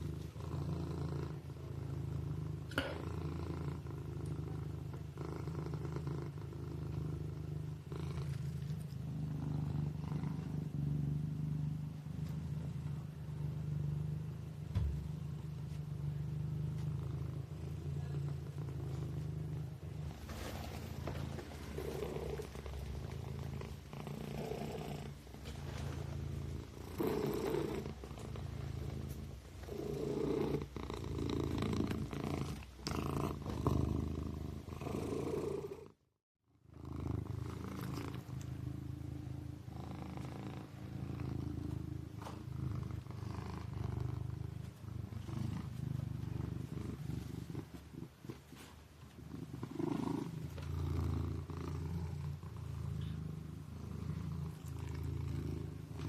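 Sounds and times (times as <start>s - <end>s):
kitten purring: 0.0s - 56.0s.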